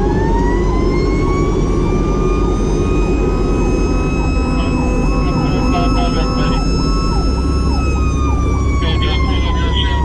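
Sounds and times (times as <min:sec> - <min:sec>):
faint second siren sweeping: 0:00.0 - 0:10.0
fire truck siren winding up: 0:00.0 - 0:10.0
truck engine and road rumble: 0:00.0 - 0:10.0.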